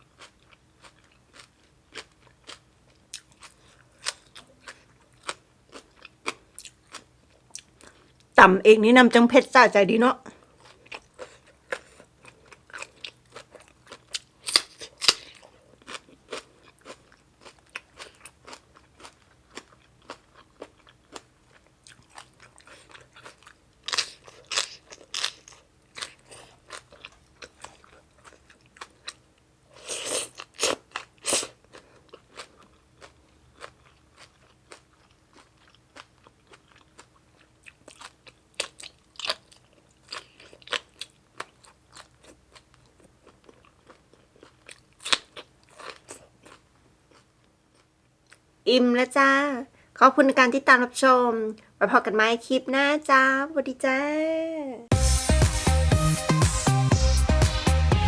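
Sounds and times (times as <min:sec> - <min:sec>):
chewing and crunching food: 0:00.0 - 0:08.4, 0:10.3 - 0:48.5.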